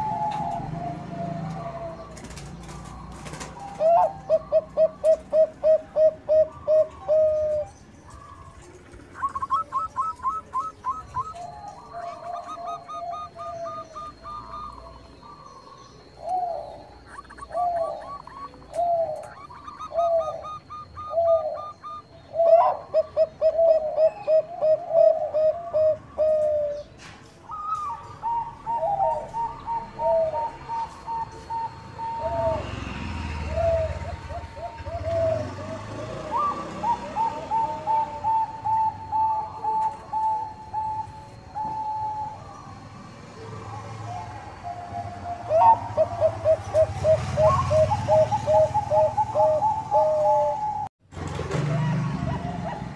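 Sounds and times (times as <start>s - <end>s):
doves cooing: 0.0s - 52.9s.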